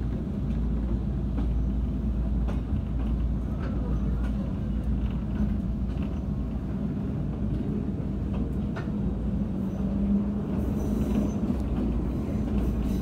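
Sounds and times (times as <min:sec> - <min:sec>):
train interior rumble: 0:00.0 - 0:13.0.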